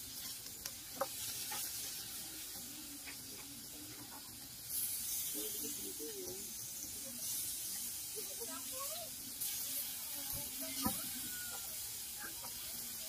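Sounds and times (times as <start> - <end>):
meat sizzling on grill pan: 0.0 - 13.0.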